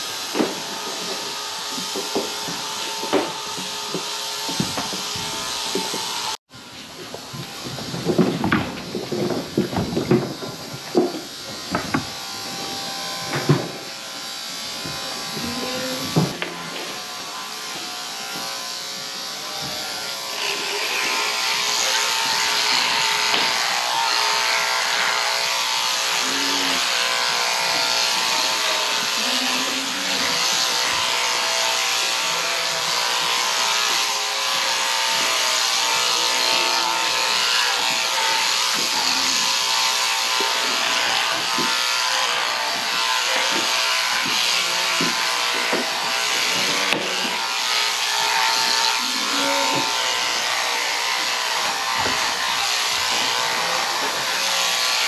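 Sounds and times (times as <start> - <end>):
electric shearing handpieces buzzing: 0.0 - 55.0.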